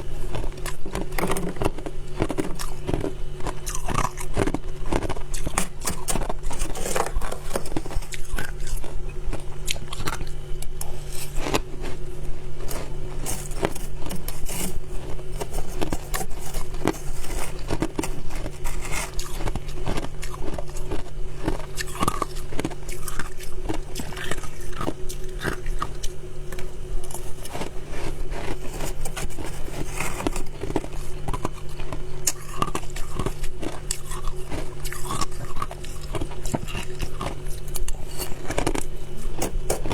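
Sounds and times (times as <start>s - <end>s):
chewing ice crunching: 0.0s - 39.9s
steady low hum: 0.0s - 39.9s.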